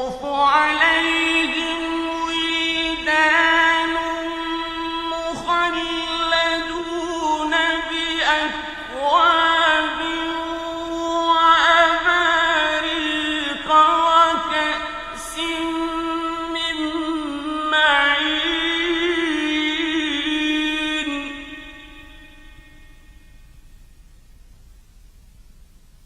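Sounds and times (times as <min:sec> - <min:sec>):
person chanting melodic recitation: 0:00.0 - 0:23.3.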